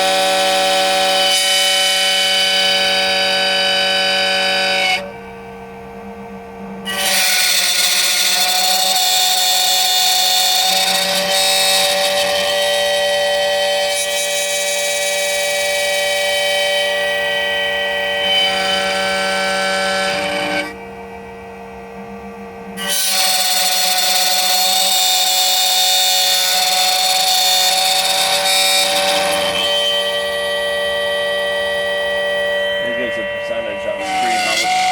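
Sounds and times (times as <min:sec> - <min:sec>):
key cutter spindle whine: 0:00.0 - 0:34.9
low machine hum: 0:00.0 - 0:34.9.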